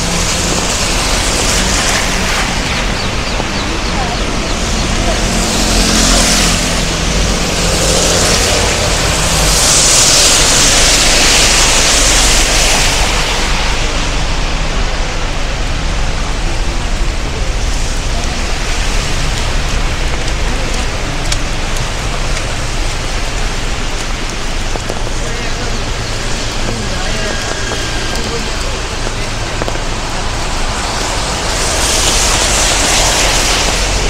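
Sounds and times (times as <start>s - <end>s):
steady rain: 0.0s - 34.0s
tyres hissing on wet road: 0.0s - 34.0s.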